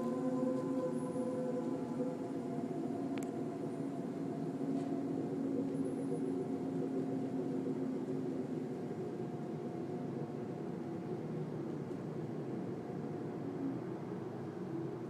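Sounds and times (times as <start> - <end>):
low droning hum: 0.0 - 14.7.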